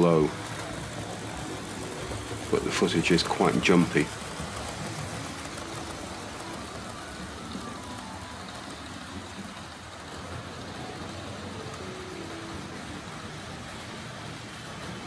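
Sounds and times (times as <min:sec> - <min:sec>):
model trains whirring on track: 0:00.0 - 0:15.0.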